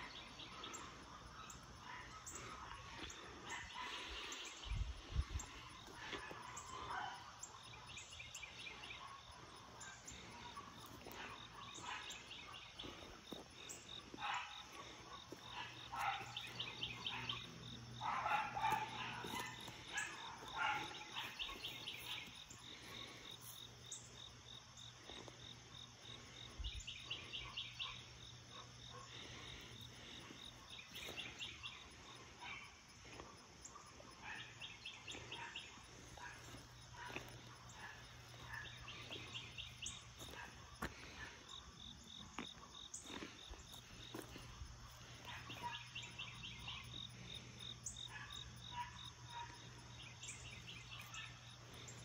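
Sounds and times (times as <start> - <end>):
birds and insects chirping: 0.0 - 52.0.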